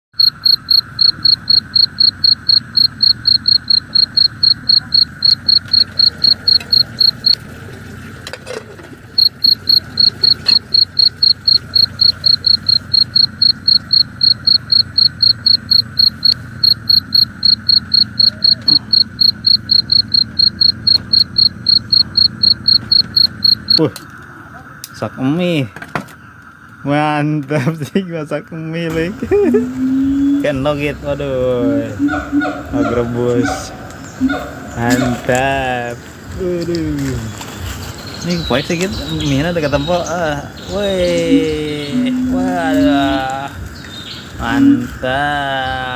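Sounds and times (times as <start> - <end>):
steady background drone: 0.2 - 7.4, 8.2 - 25.6, 28.9 - 45.9
cricket chirping: 0.2 - 7.5, 8.5 - 27.0, 27.8 - 45.9.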